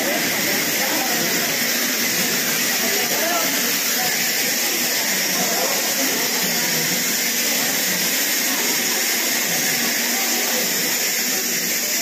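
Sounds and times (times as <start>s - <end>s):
faint voices: 0.0s - 12.0s
train coach hiss: 0.0s - 12.0s.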